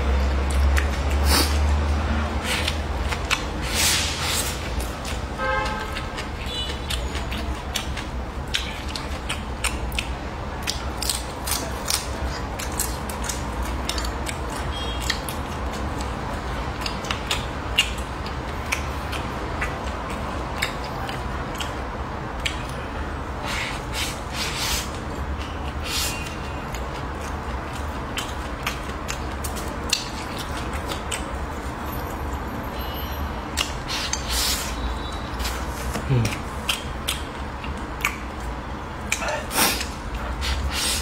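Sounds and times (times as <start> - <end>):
wet chewing and smacking: 0.4 - 32.1, 33.5 - 40.8.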